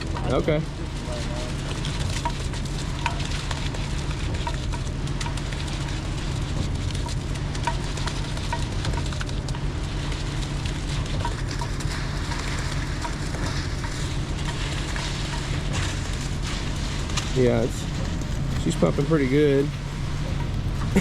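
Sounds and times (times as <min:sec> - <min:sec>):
engine running at raised throttle: 0:00.0 - 0:21.0.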